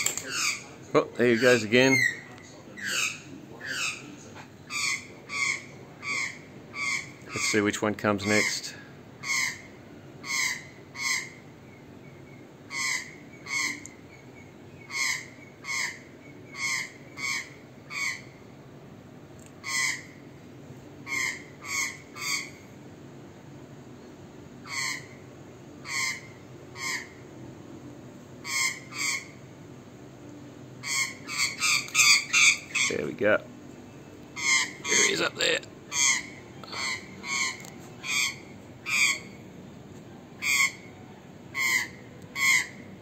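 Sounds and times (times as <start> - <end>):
magpies harsh alarm calls: 0.0 - 18.5, 19.6 - 20.4, 21.0 - 22.7, 24.6 - 27.3, 28.4 - 29.6, 30.8 - 33.4, 34.3 - 39.5, 40.4 - 40.9, 41.5 - 43.0.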